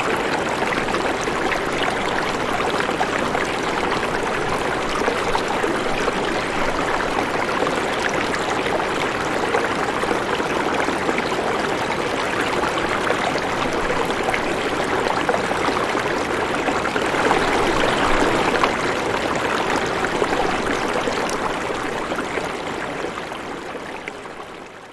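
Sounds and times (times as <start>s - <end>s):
rushing water: 0.0s - 24.9s.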